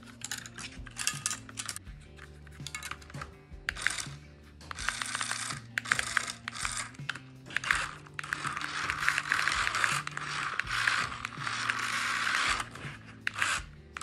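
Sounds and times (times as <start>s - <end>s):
soft background music: 0.0s - 14.0s
toy motor whirring and grinding: 0.0s - 14.0s.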